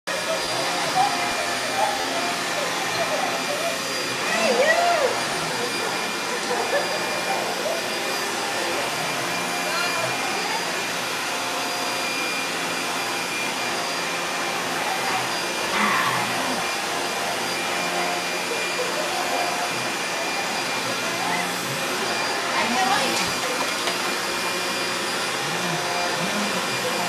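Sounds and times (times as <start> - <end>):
upright vacuum cleaner running: 0.1 - 27.0.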